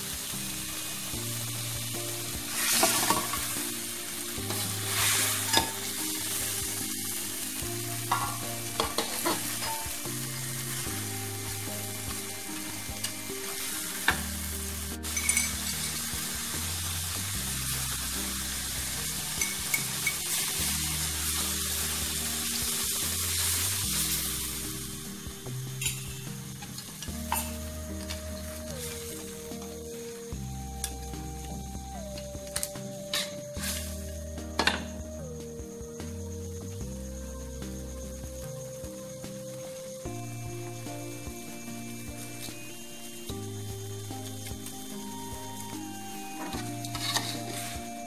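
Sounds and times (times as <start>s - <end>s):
food sizzling in oil: 0.0s - 35.3s, 37.8s - 48.0s.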